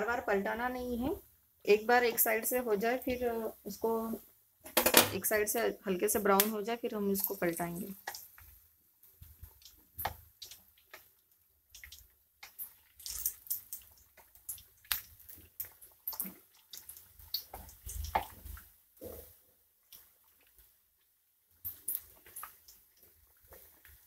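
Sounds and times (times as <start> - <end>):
fritters frying in hot oil: 1.9 - 24.0.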